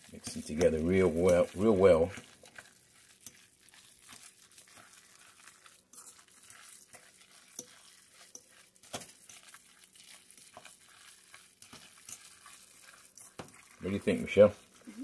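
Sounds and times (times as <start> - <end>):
wet squishing of meat mixture: 0.0 - 15.0.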